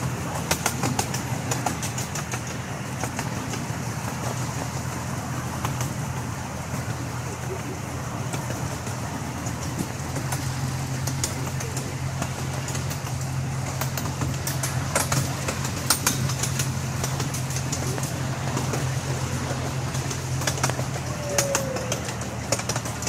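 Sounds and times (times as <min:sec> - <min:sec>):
train locomotive drone: 0:00.0 - 0:23.0
wheels clicking and rattling: 0:00.0 - 0:23.0.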